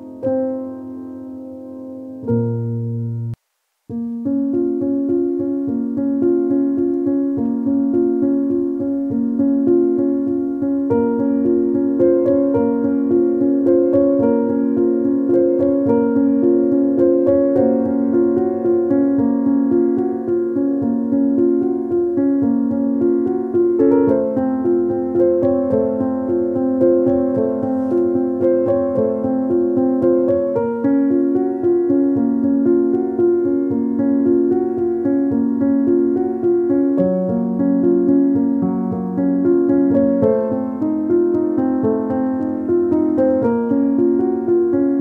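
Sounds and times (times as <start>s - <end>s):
keyboard music repeating notes: 0.0s - 45.0s.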